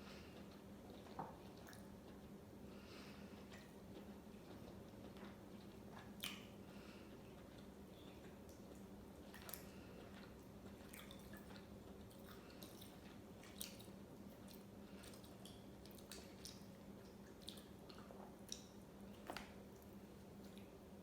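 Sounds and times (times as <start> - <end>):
steady low hum: 0.0 - 21.0
wet chewing clicks: 3.2 - 20.8.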